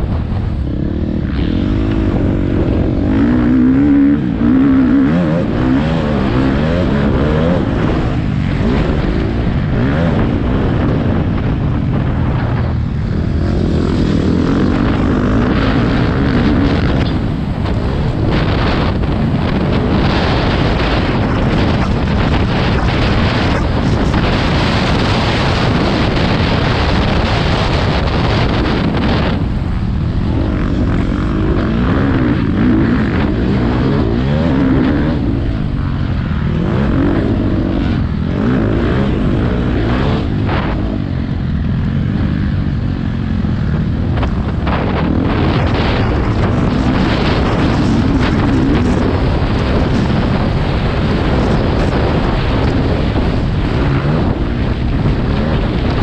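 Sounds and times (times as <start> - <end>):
motocross engines racing: 0.0 - 56.0
wind rumble on microphone: 0.0 - 56.0.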